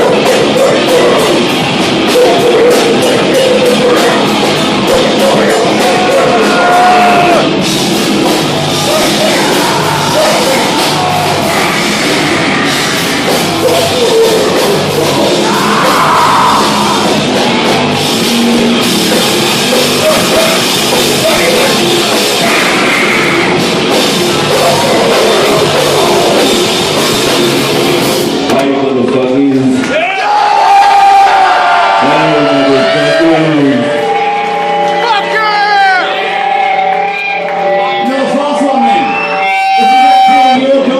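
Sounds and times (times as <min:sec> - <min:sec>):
vocals: 0:00.0 - 0:30.0, 0:31.9 - 0:40.9
distorted guitars: 0:00.0 - 0:40.9
drums: 0:00.0 - 0:40.9.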